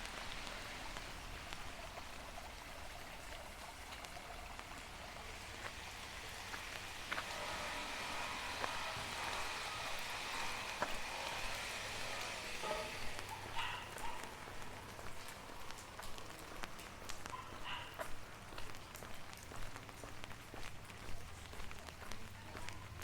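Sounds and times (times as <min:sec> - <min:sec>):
rain falling: 0:00.0 - 0:23.0
raindrops ticking on hard surfaces: 0:00.0 - 0:23.0.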